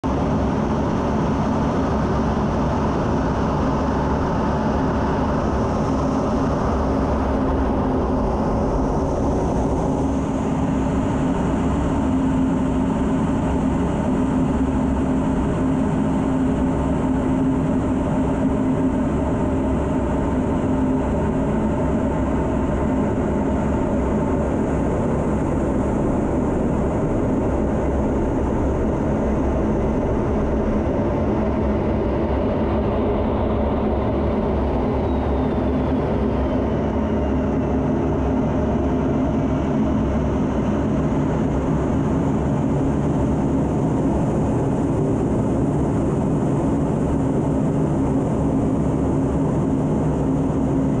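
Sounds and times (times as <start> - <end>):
jet cockpit engine and airflow rumble: 0.0 - 51.0.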